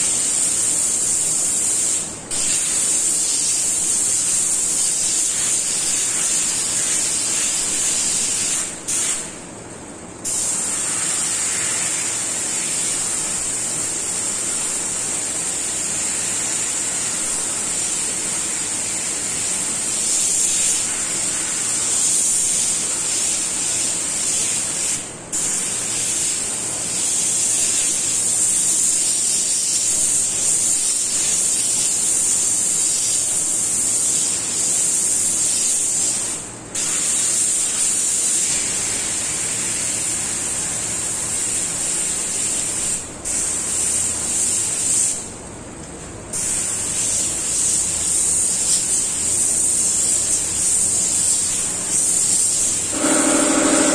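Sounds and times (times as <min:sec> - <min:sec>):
airbrush hissing: 0:00.0 - 0:09.3, 0:10.2 - 0:40.3, 0:46.4 - 0:53.9.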